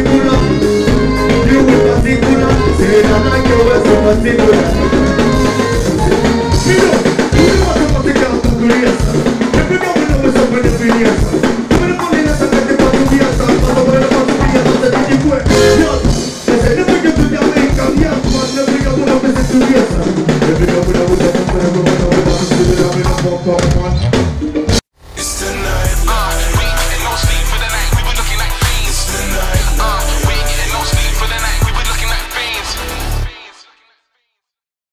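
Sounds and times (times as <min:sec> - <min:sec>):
electric guitar: 0:00.0 - 0:33.3
drum kit beat: 0:00.0 - 0:33.4.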